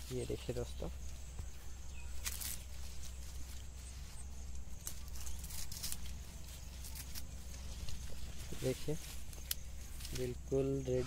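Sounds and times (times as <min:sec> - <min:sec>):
leaves rustling and crackling: 0:00.0 - 0:11.0
low rumble: 0:00.0 - 0:11.0.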